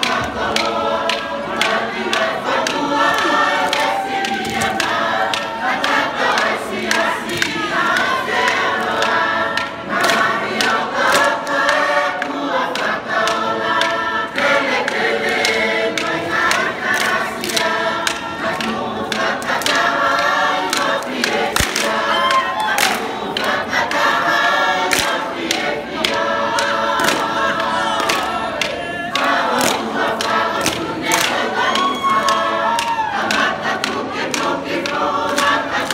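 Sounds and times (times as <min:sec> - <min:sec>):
large choir singing: 0:00.0 - 0:35.9
sharp hand claps: 0:00.0 - 0:35.9.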